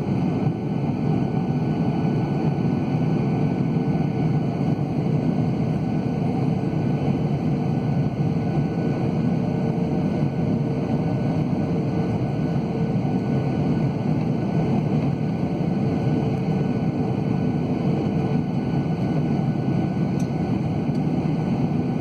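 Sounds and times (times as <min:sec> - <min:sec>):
engine and airflow rumble: 0:00.0 - 0:22.0.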